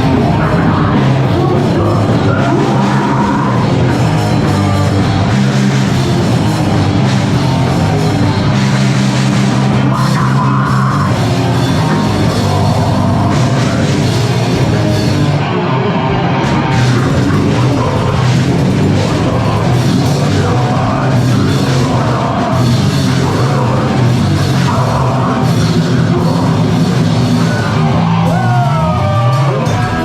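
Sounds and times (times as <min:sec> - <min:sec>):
heavy rock band playing: 0:00.0 - 0:30.0
pounding drum kit: 0:00.0 - 0:30.0.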